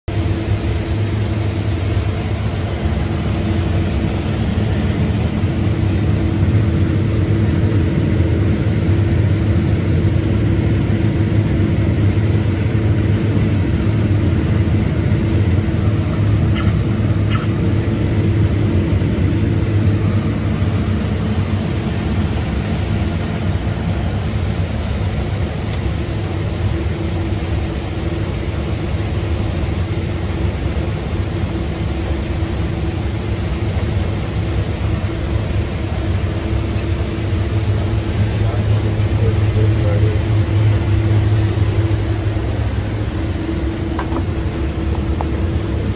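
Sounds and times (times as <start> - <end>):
combine harvester droning: 0.1 - 45.9
constant hum: 0.1 - 45.9.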